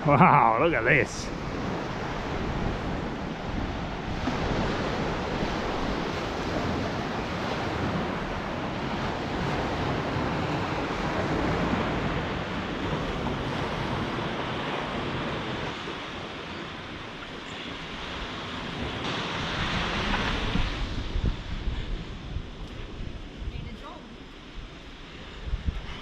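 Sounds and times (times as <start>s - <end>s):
ocean waves on beach: 0.0s - 26.0s
wind buffeting microphone: 0.0s - 26.0s.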